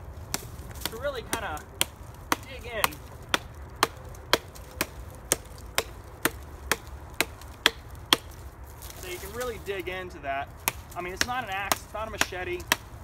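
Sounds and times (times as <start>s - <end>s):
knife chopping into log: 0.3s - 9.6s, 10.6s - 12.9s.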